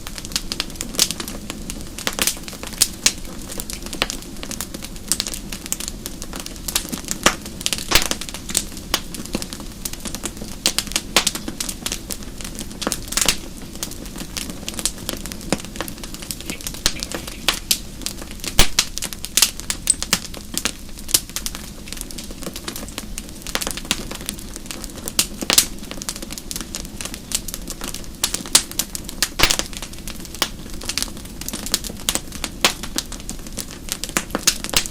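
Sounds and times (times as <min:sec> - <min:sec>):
wood fire crackling and popping: 0:00.0 - 0:34.9.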